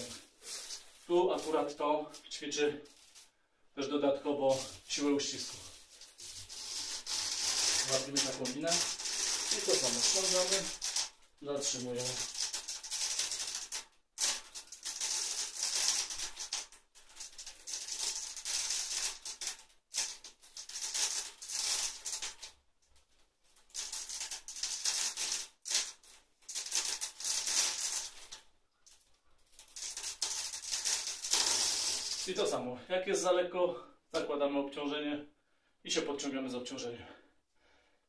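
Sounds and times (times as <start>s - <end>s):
rope rustling and hissing: 0.0s - 3.4s, 4.5s - 32.6s.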